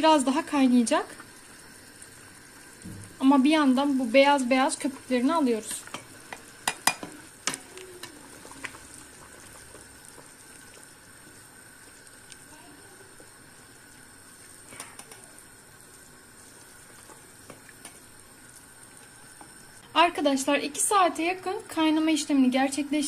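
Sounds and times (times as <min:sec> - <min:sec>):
water boiling in a pot: 0:00.0 - 0:23.0.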